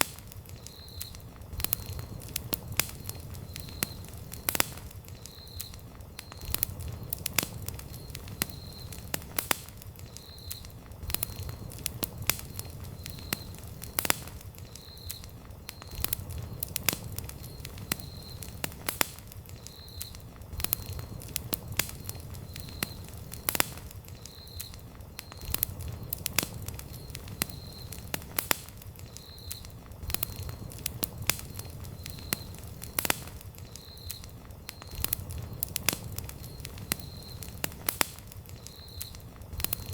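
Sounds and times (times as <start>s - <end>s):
fire popping: 0.0s - 39.9s
low rumble of flames: 0.0s - 39.9s
wood campfire crackling: 0.0s - 39.9s.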